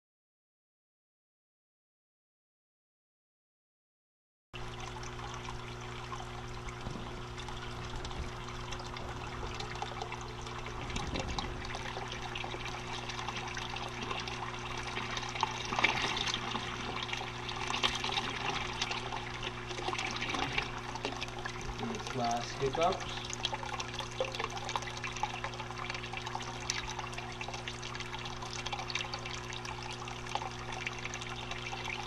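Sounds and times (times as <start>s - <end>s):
low hum: 4.6s - 32.0s
water gurgling and trickling: 4.6s - 32.0s.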